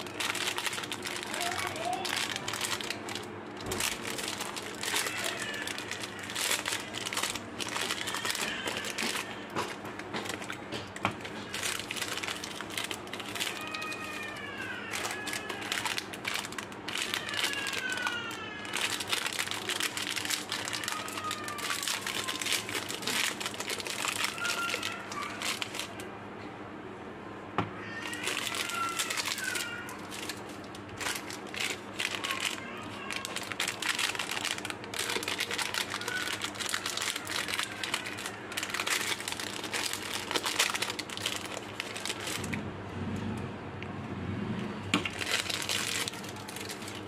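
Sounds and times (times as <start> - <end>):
candy wrappers crinkling: 0.0 - 26.1, 27.8 - 42.6, 45.0 - 47.0.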